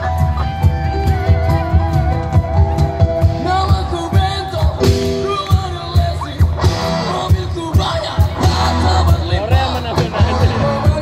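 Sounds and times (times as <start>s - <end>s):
bass guitar: 0.0s - 11.0s
drums with steady beat: 0.0s - 11.0s
guitar: 0.0s - 11.0s
person singing: 1.0s - 11.0s.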